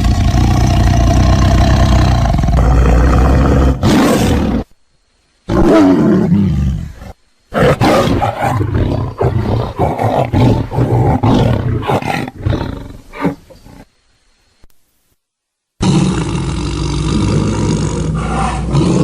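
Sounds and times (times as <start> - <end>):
tiger roaring: 0.0 - 4.7, 5.5 - 13.9, 15.8 - 19.0.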